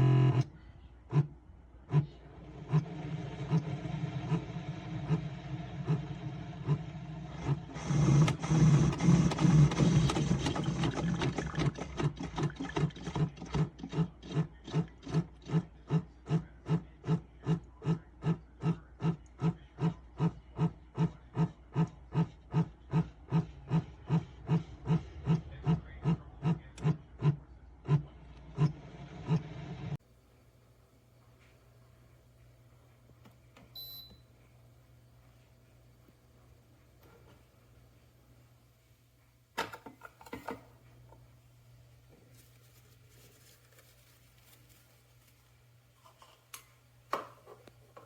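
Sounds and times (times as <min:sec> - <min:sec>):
coffee brewer pump humming: 0:00.0 - 0:00.5, 0:02.0 - 0:48.0.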